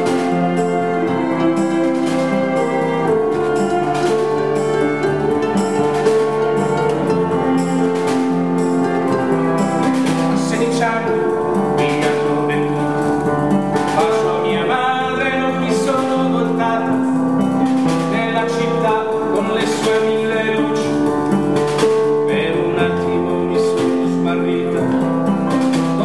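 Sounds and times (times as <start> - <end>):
cello: 0.0 - 26.0
hand percussion: 0.0 - 26.0
keyboard: 0.0 - 26.0
strummed acoustic guitar: 0.0 - 26.0.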